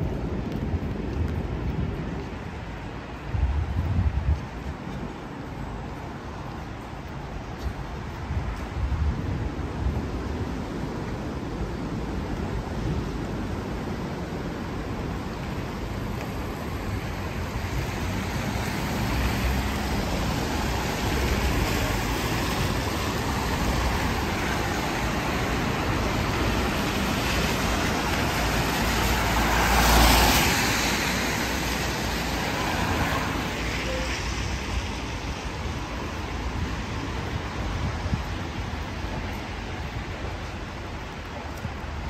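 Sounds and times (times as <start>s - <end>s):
traffic hiss on wet road: 0.0s - 42.0s.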